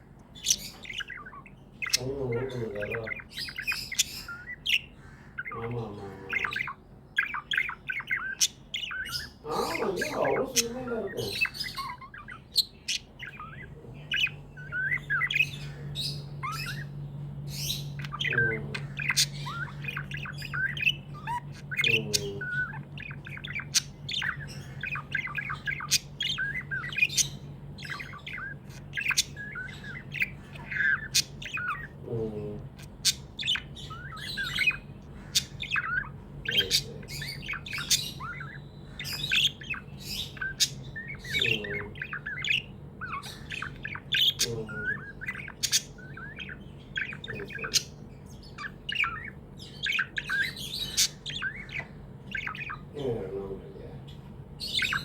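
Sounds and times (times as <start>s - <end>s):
budgerigars chirping: 0.0s - 55.0s
steady low hum: 0.0s - 55.0s.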